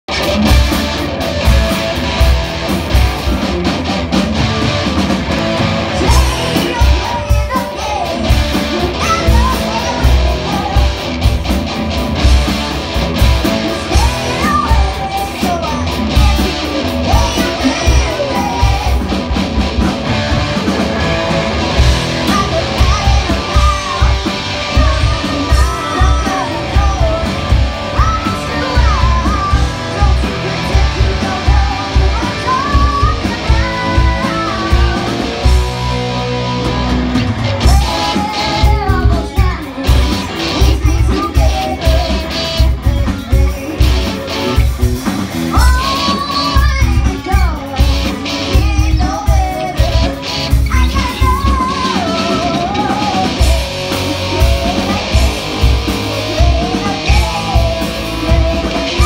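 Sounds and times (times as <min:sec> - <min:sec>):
bass guitar: 0:00.0 - 0:59.0
electric guitars: 0:00.0 - 0:59.0
person singing: 0:05.9 - 0:11.2, 0:13.4 - 0:20.9, 0:21.8 - 0:44.7, 0:45.5 - 0:59.0.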